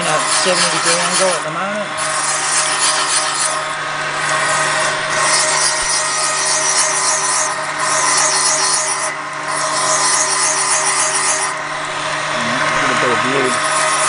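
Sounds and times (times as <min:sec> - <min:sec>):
cutter scraping metal: 0:00.0 - 0:14.0
motor humming: 0:00.0 - 0:14.0.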